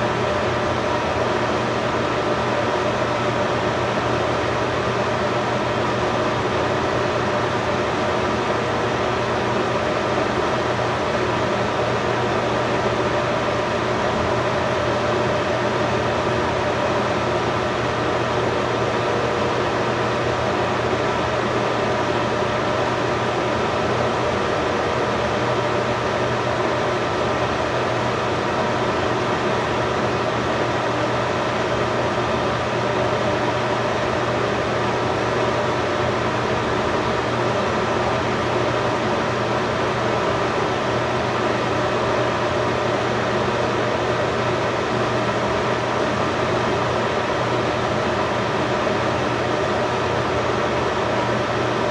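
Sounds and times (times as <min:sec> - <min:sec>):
steady mechanical hum with hiss: 0:00.0 - 0:51.9.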